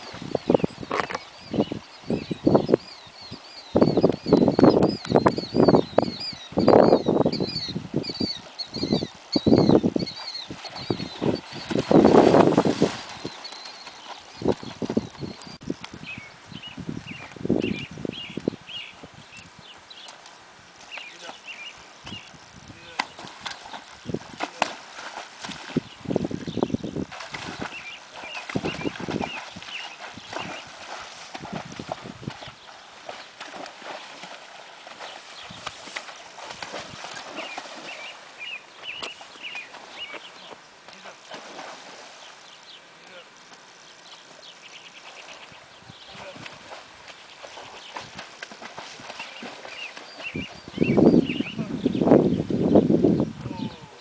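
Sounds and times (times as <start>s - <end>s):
horse hooves splashing in water: 0.0s - 52.6s
birds chirping: 0.0s - 54.0s.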